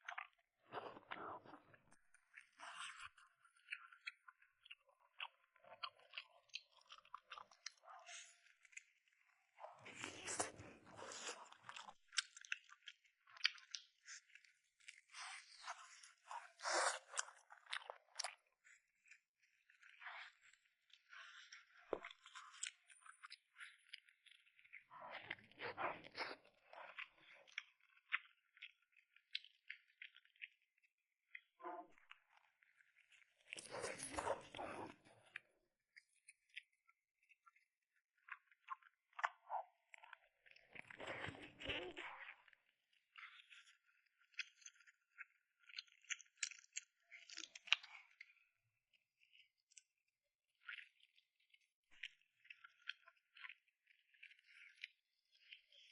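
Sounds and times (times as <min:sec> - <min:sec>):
crunchy bites and chewing: 0:00.0 - 0:30.6, 0:31.3 - 0:35.4, 0:38.2 - 0:42.6, 0:43.2 - 0:48.3, 0:50.6 - 0:55.9.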